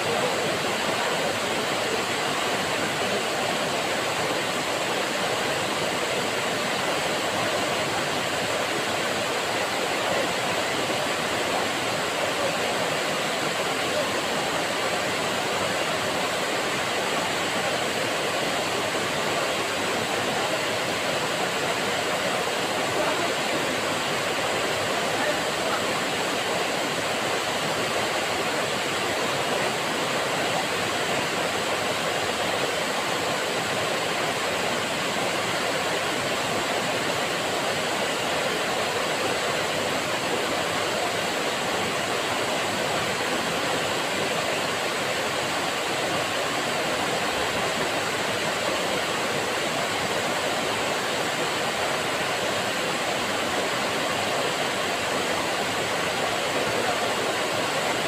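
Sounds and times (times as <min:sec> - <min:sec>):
waterfall rushing into pool: 0:00.0 - 0:58.0.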